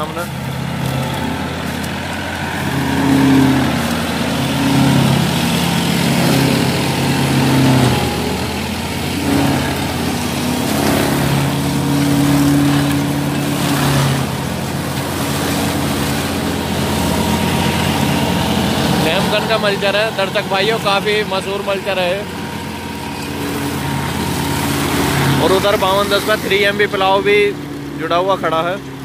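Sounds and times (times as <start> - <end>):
flail mulcher shredding dry leaves: 0.0 - 29.0
tractor diesel engine under load: 0.0 - 29.0.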